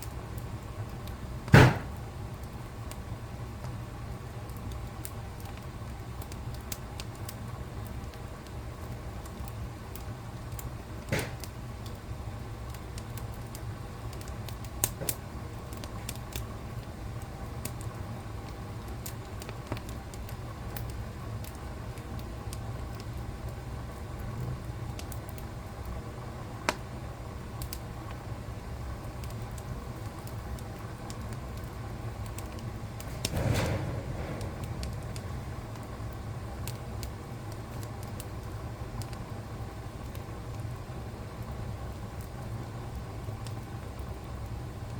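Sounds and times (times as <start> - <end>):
low rumble of flames: 0.0 - 44.9
wood fire crackling: 0.0 - 44.9.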